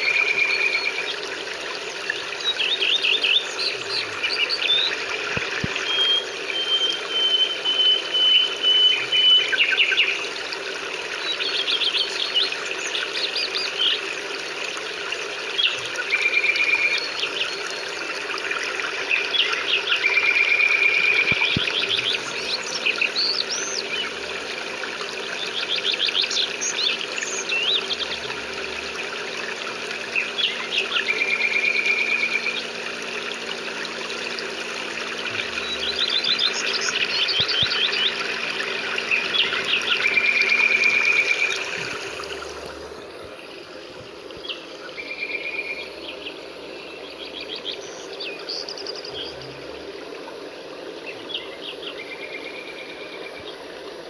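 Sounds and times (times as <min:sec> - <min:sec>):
songbirds chirping and trilling: 0:00.0 - 0:43.6, 0:44.3 - 0:53.9.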